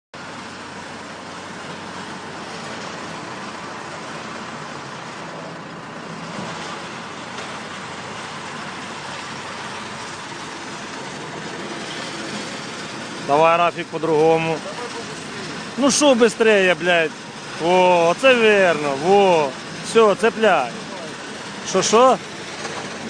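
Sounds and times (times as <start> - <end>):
engine running steadily: 0.2 - 23.0
outdoor site noise hiss: 0.2 - 23.0.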